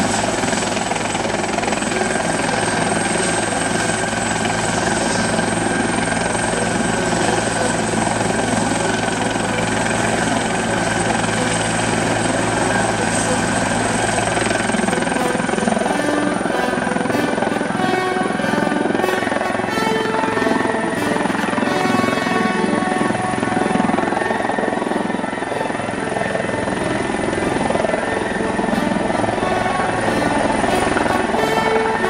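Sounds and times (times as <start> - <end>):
helicopter running: 0.0 - 32.0
music: 0.0 - 32.0.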